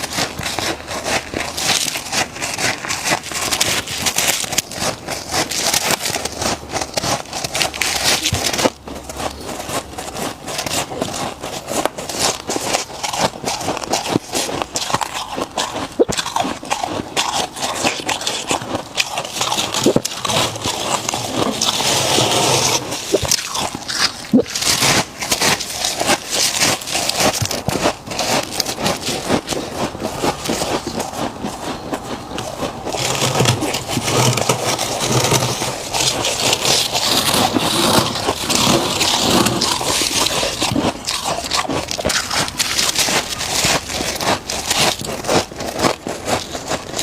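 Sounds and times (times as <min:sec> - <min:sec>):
frost crunching being chewed: 0:00.0 - 0:47.0.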